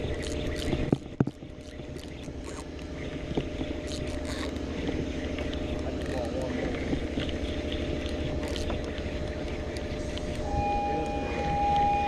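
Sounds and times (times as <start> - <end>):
boat engine running: 0.0 - 12.0
water around a hull: 0.0 - 12.0.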